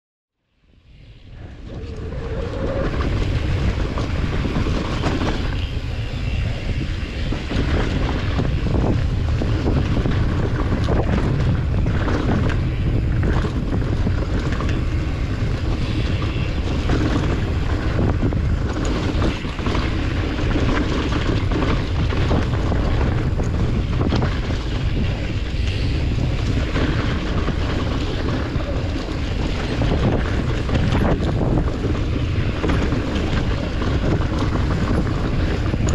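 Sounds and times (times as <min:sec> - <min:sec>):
wind rushing over microphone: 0:00.5 - 0:35.9.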